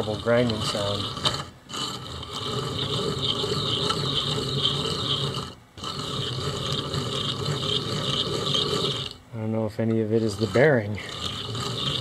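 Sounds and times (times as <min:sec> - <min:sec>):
motor shaft grinding and scraping: 0:00.0 - 0:09.2, 0:09.8 - 0:12.0.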